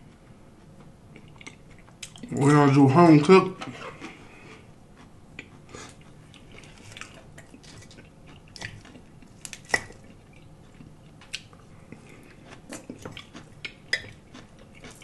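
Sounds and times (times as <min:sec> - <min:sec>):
chewing and wet mouth sounds: 0:01.1 - 0:02.5, 0:03.9 - 0:15.0.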